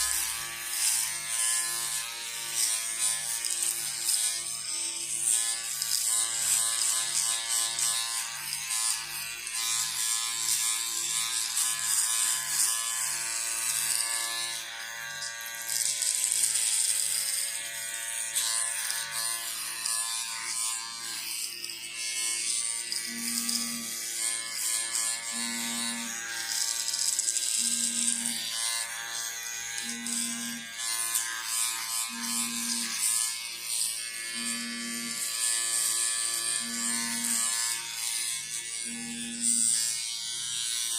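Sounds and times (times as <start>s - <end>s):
electric shaver buzzing: 0.0s - 40.9s.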